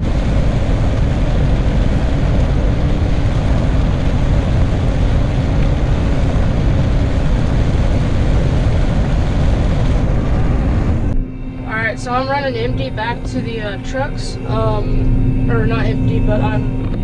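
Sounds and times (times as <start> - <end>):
combine harvester engine rumble: 0.0 - 17.0.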